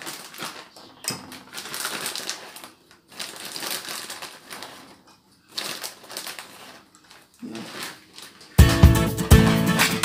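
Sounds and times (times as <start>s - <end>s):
plastic packet crinkling: 0.0s - 8.6s.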